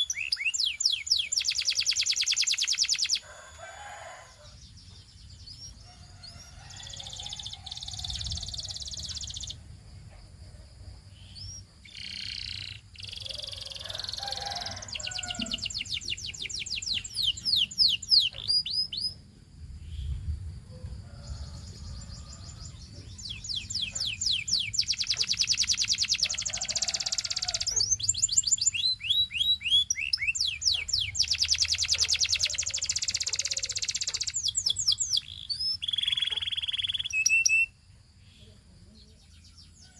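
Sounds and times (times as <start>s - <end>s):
canary singing trills: 0.0s - 9.6s, 11.1s - 19.3s, 21.6s - 39.9s.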